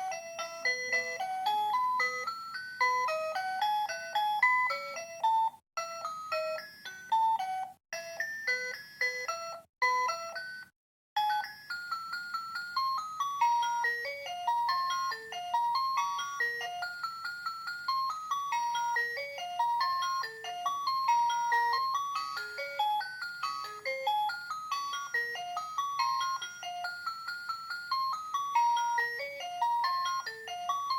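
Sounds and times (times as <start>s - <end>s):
alarm clock electronic melody: 0.0s - 30.9s.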